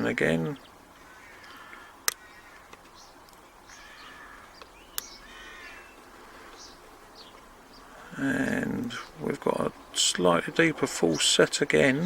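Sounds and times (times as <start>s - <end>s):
faint bird calls: 0.0s - 10.0s.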